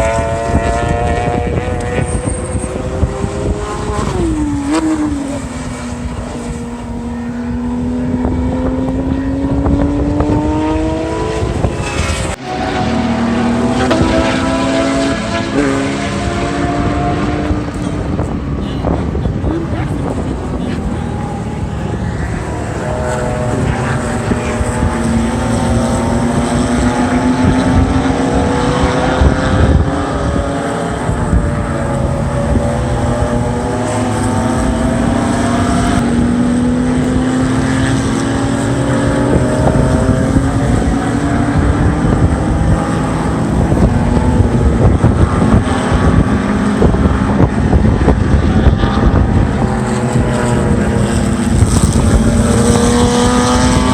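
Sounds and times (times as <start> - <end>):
loud continuous rumble: 0.0 - 53.9
race car engines revving: 0.0 - 53.9.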